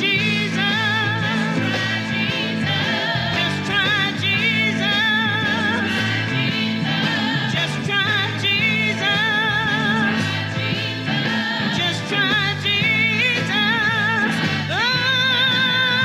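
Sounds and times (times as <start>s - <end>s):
band backing: 0.0s - 16.0s
gospel singer with vibrato: 0.0s - 16.0s.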